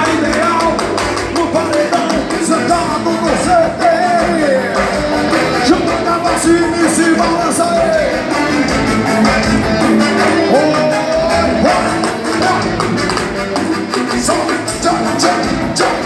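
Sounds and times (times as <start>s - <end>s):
live dance-band music: 0.0s - 16.0s.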